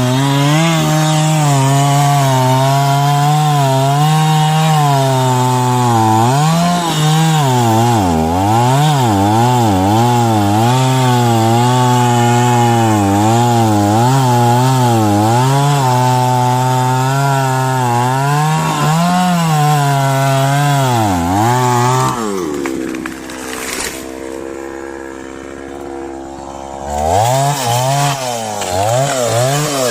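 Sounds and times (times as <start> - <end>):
chainsaw cutting wood: 0.0 - 29.9.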